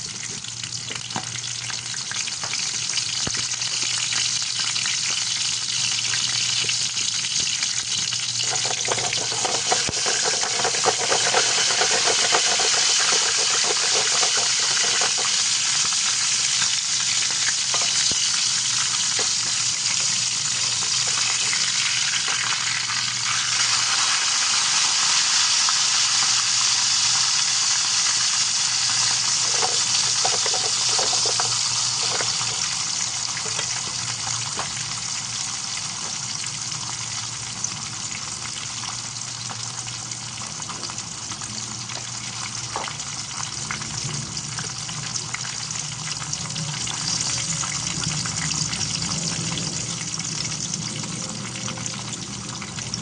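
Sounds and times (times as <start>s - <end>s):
fish frying in oil: 0.0s - 53.0s.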